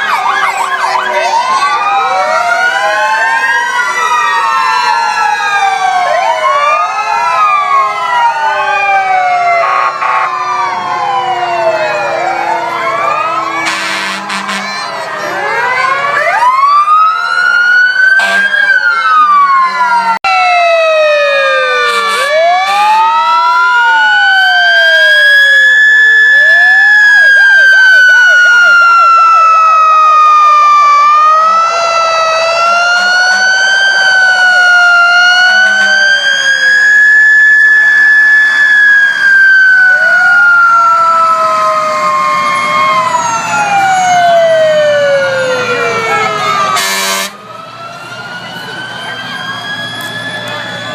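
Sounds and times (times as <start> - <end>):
fast siren wails: 0.0 - 50.9
fire truck siren winding: 0.0 - 50.9
siren yelp: 0.0 - 50.9.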